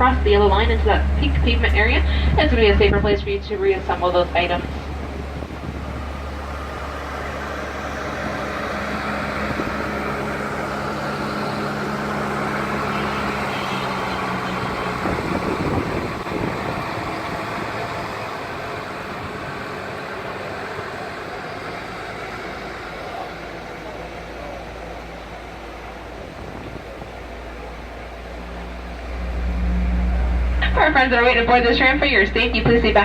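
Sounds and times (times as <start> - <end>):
road and wind noise: 0.0 - 33.0
tram engine hum: 0.0 - 33.0
rush of noise: 0.9 - 33.0.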